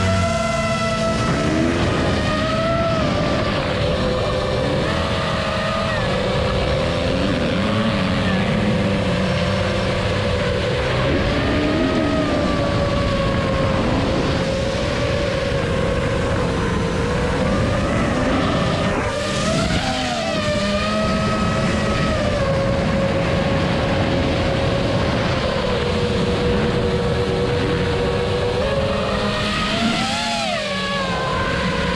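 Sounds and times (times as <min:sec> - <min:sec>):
dirt bike engines revving: 0:00.0 - 0:31.9
drone motors whining: 0:00.0 - 0:31.9
low wind rush: 0:00.0 - 0:31.9.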